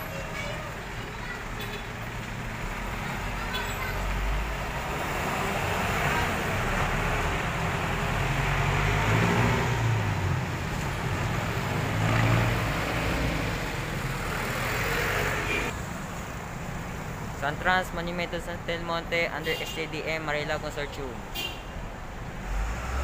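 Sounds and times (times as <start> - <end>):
bus engine passing: 0.0 - 19.2
vehicle engines and tyres: 0.0 - 23.0.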